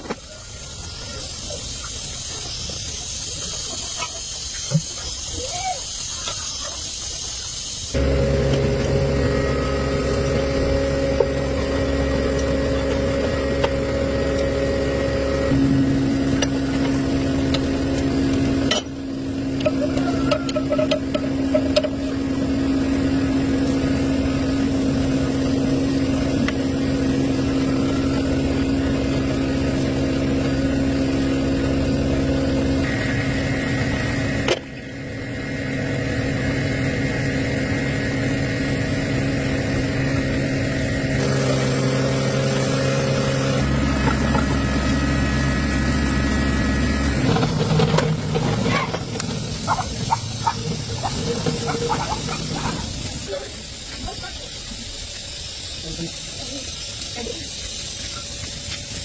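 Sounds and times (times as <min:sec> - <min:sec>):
tractor engine running: 0:06.0 - 0:59.0.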